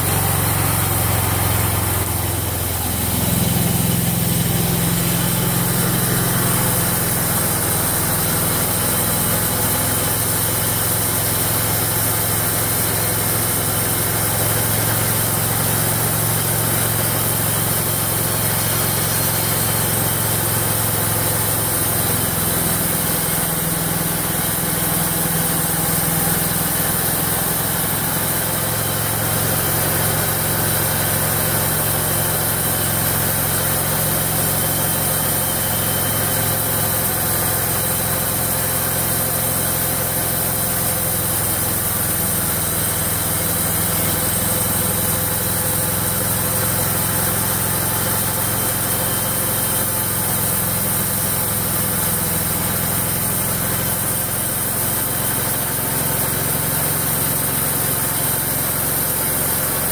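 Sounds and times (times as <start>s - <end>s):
bandsaw mill engine drone: 0.0s - 59.9s.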